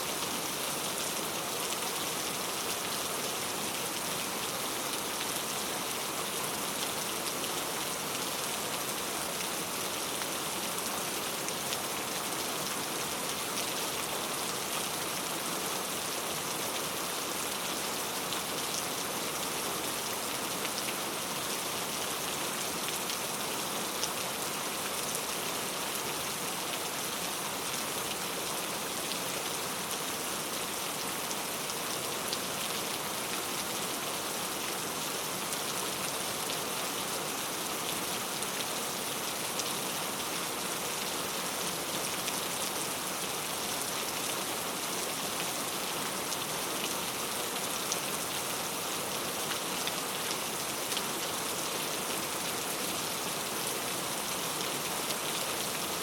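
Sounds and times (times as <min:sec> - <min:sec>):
heavy rain on leaves: 0:00.0 - 0:56.0.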